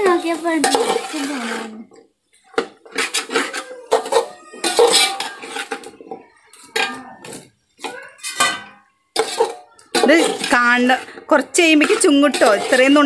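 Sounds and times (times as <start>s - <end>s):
ladle scraping metal pot: 0.0s - 2.0s, 2.6s - 13.0s.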